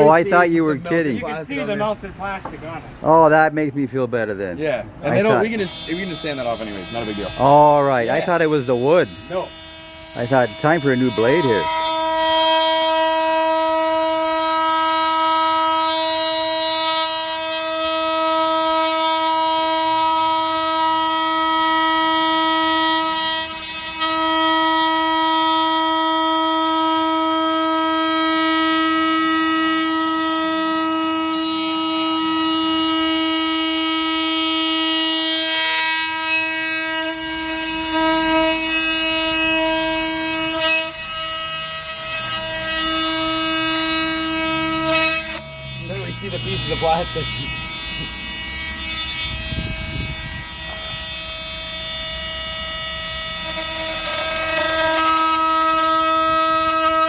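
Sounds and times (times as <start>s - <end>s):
oscillating multitool cutting wood: 5.0s - 57.0s.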